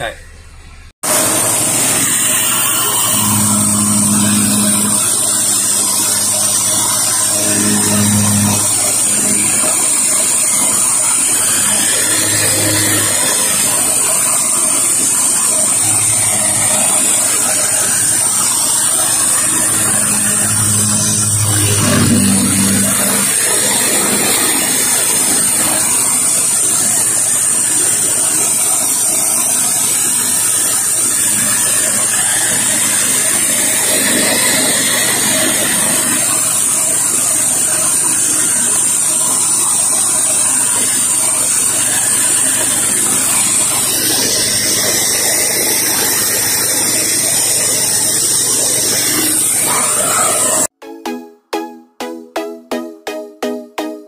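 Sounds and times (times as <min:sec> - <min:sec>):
low hum: 0:00.0 - 0:50.7.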